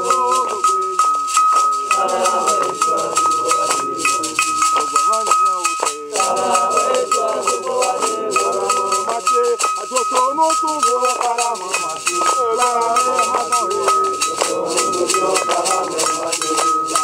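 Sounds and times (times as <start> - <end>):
handclaps: 0.0 - 17.0
men singing a chant: 0.0 - 17.0
rattle shaking: 0.0 - 17.0
steady high ringing note: 0.0 - 17.0.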